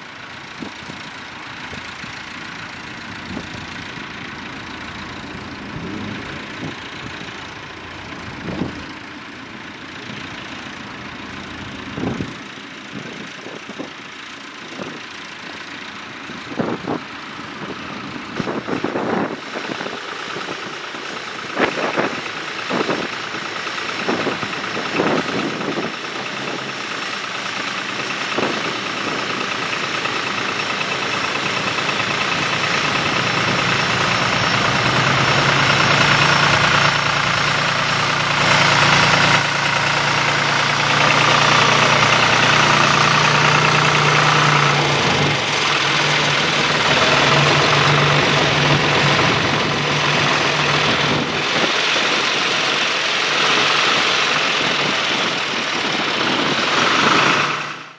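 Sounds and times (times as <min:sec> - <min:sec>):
tractor engine running under load: 0:00.0 - 0:57.9.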